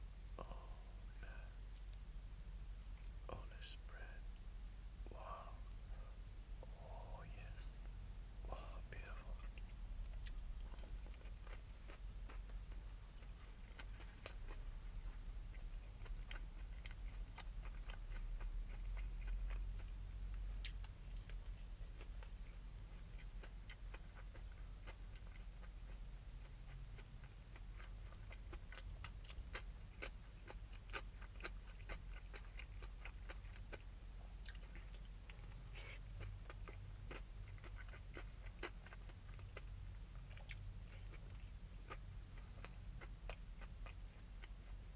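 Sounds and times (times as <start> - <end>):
chewing crispy fried chicken: 6.8 - 44.9.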